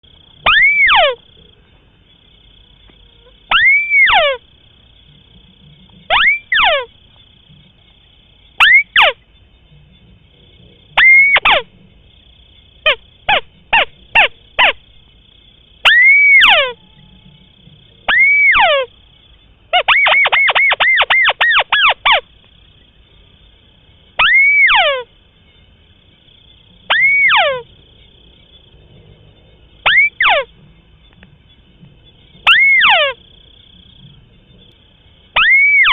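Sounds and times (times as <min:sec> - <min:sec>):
bird calling: 0:00.2 - 0:01.8, 0:02.4 - 0:23.0, 0:24.1 - 0:25.8, 0:26.5 - 0:28.7, 0:29.8 - 0:35.9.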